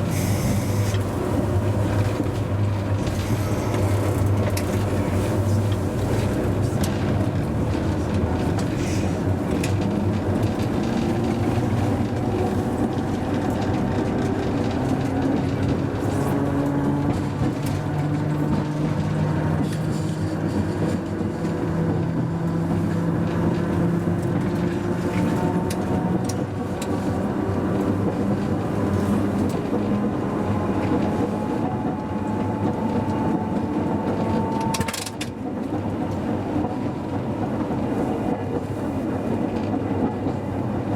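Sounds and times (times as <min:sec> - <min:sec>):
tram rolling noise: 0:00.0 - 0:40.9
wheels clicking on rails: 0:00.0 - 0:40.9.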